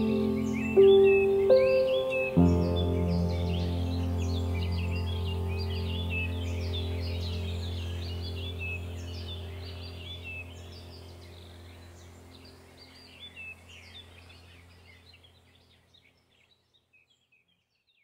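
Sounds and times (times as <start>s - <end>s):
low steady drone: 0.0s - 15.4s
birds chirping: 0.0s - 18.0s.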